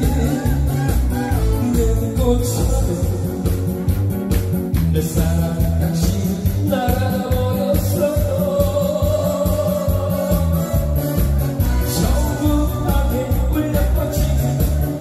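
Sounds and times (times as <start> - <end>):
man singing into a microphone: 0.0 - 4.0, 4.7 - 15.0
backing track with bass beat: 0.0 - 15.0.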